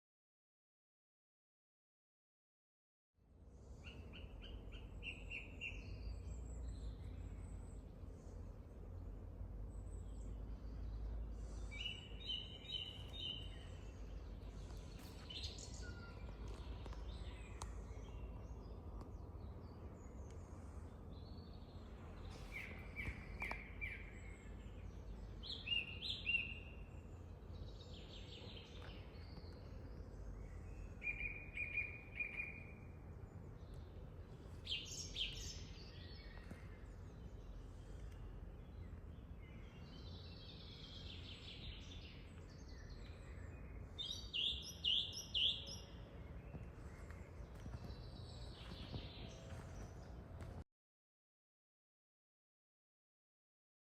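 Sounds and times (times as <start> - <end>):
songbirds singing: 3.3 - 50.6.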